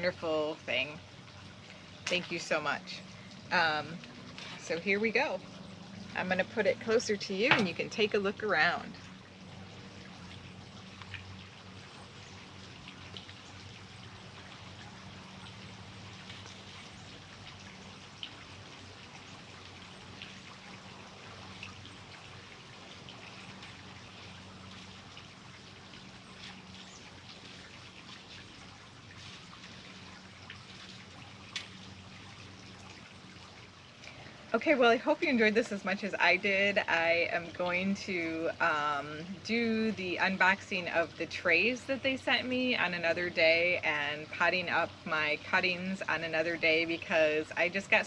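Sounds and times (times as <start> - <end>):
low hum: 0.0 - 48.0
trickling water: 0.0 - 48.0.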